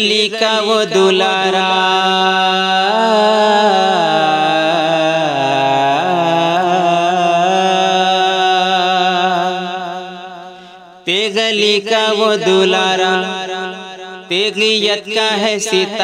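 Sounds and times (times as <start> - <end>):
man singing wordless melody: 0.0 - 16.0.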